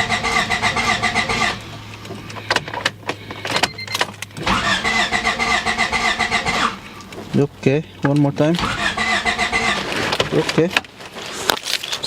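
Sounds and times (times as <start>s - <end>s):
starter cranking engine: 0.0s - 10.7s.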